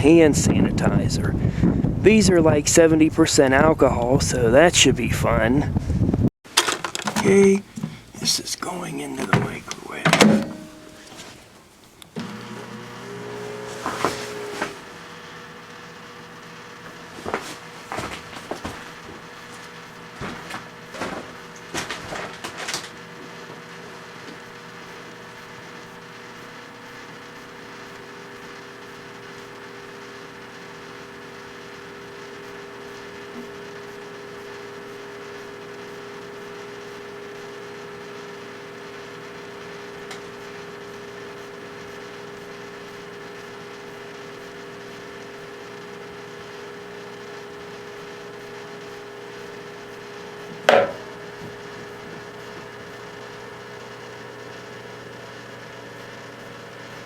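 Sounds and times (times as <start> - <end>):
microwave oven humming: 5.6 - 57.0.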